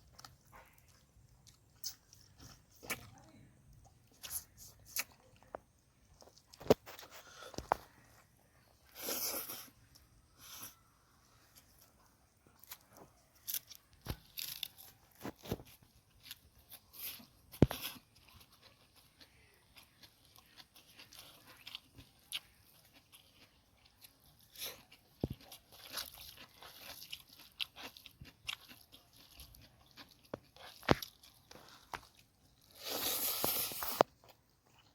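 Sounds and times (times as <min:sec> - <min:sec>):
person chewing crunchy food: 0:00.0 - 0:34.9.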